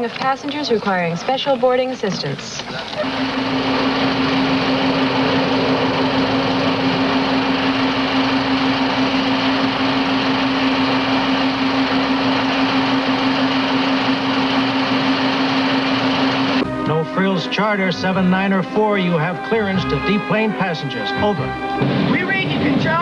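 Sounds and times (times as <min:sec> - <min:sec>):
engine drone: 0:02.9 - 0:23.0.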